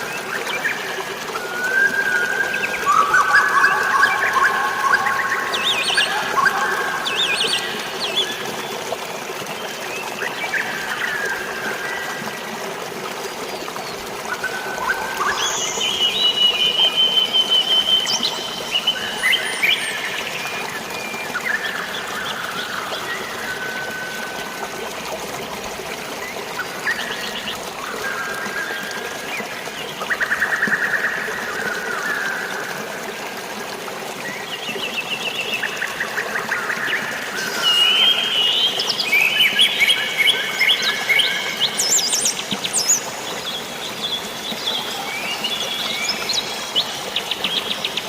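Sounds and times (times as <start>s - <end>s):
flowing water: 0.0s - 48.0s.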